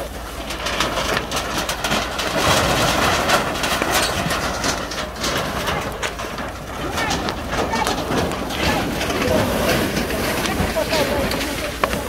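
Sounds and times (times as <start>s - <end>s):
fire crackling and snapping: 0.0s - 12.0s
steady low rumble: 0.0s - 12.0s.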